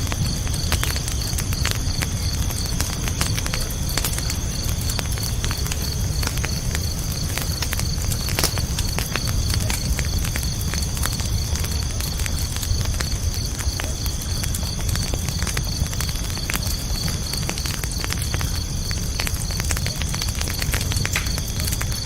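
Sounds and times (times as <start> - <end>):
campfire crackling and popping: 0.0 - 22.0
crickets chirping: 0.0 - 22.0.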